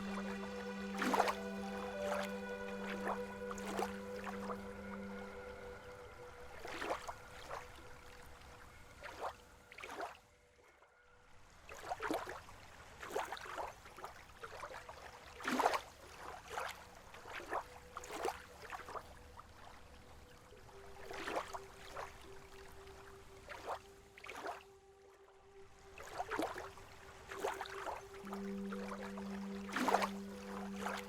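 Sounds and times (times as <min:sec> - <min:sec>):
lake water lapping: 0:00.0 - 0:10.3, 0:11.6 - 0:31.0.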